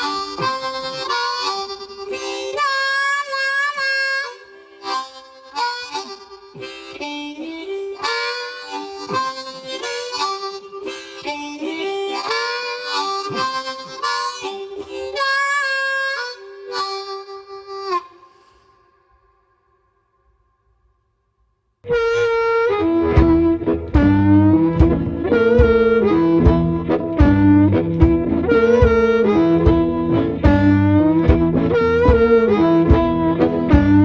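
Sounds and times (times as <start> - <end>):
harmonica playing blues riff: 0.0 - 18.8, 21.9 - 34.0.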